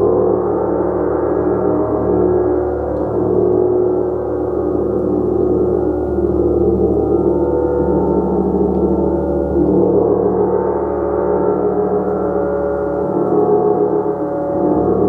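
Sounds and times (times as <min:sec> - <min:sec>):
gong ringing: 0:00.0 - 0:15.0.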